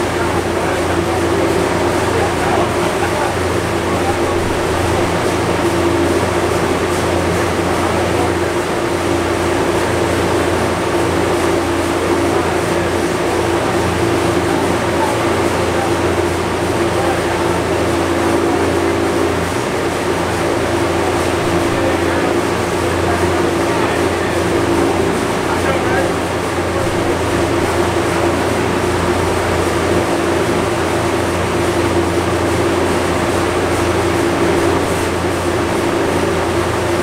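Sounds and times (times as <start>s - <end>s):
cooling fans blowing: 0.0s - 37.0s.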